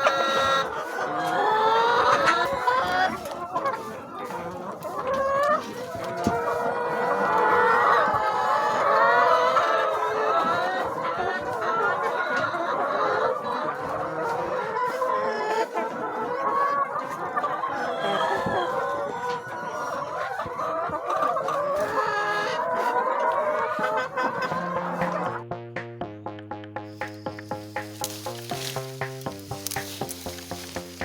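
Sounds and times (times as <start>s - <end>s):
chickens clucking and calling: 0.0s - 25.6s, 26.3s - 31.0s.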